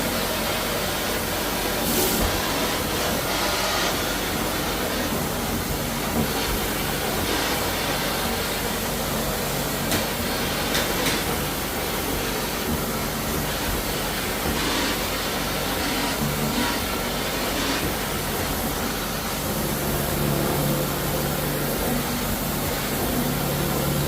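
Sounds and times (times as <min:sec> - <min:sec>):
floor-cleaning machine hissing: 0:00.0 - 0:24.0.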